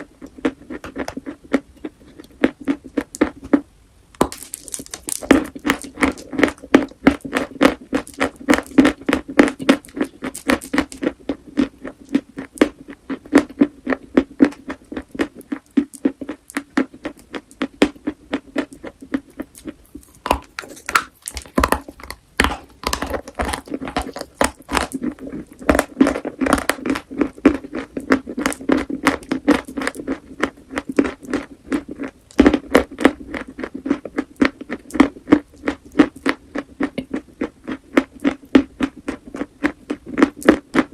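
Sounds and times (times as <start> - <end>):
chalk being chewed: 4.3 - 40.9.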